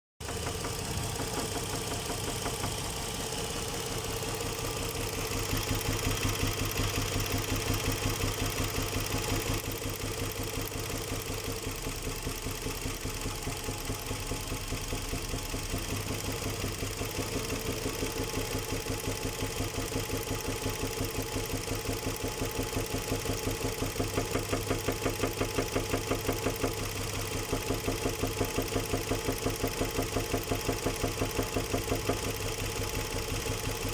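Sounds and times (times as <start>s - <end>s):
engine running with rhythmic knock: 0.2s - 33.9s.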